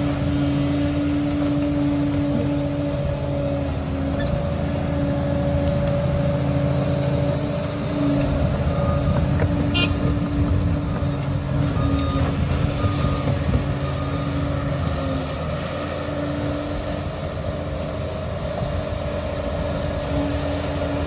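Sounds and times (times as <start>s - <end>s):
heavy diesel engine humming: 0.0s - 21.0s.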